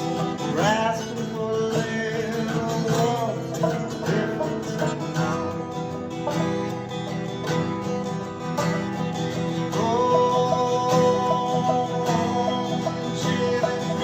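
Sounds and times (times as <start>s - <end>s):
plucked strings bluegrass tune: 0.0s - 14.0s.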